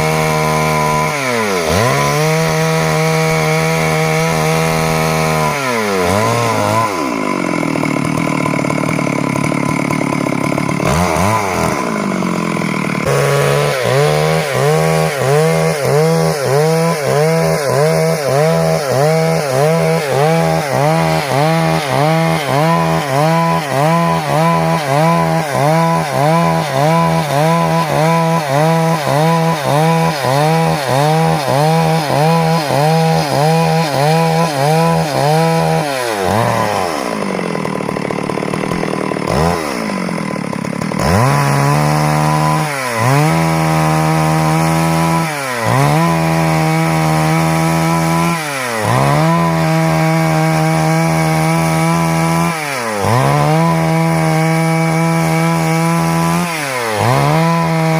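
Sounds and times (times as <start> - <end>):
chainsaw running hard: 0.0 - 57.9.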